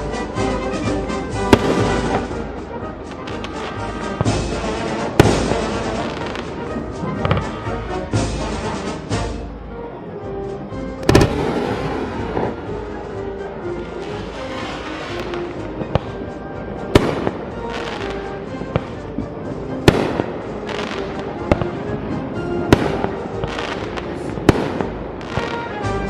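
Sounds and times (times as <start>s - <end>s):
fireworks booming: 0.0s - 9.4s, 11.0s - 26.0s
background music: 0.0s - 26.0s.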